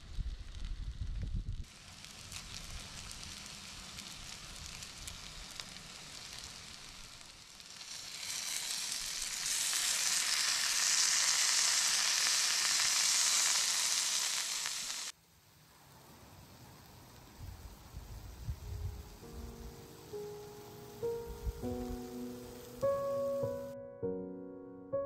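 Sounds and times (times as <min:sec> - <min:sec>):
food sizzling in a frying pan: 0:00.0 - 0:15.2, 0:16.0 - 0:23.7.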